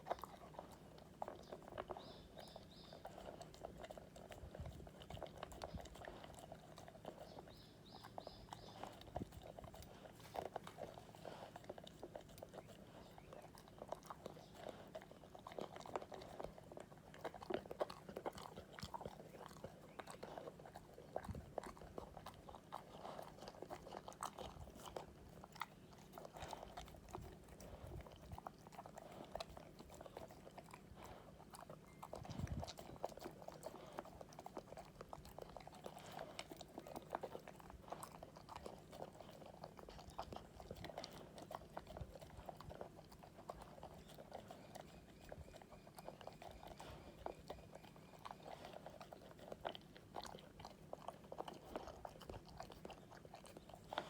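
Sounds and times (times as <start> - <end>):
dog chewing and crunching food: 0.0 - 54.0.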